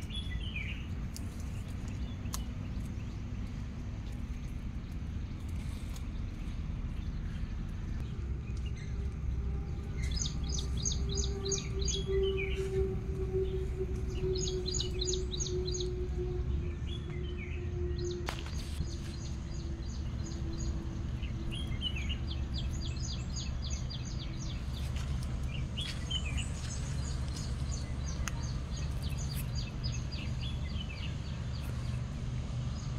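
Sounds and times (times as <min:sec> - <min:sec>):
birds chirping and trilling: 0:00.0 - 0:32.9
low rumble: 0:00.0 - 0:32.9.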